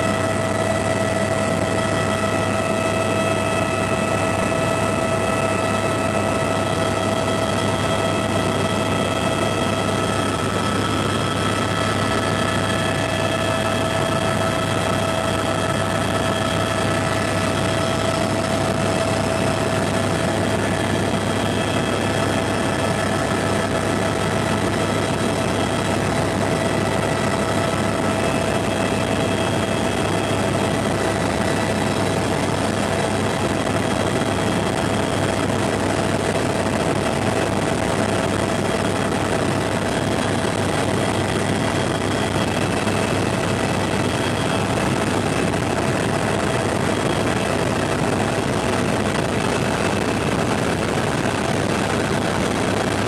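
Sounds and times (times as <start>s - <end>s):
helicopter turbine whine: 0.0s - 53.0s
low rotor hum: 0.0s - 53.0s.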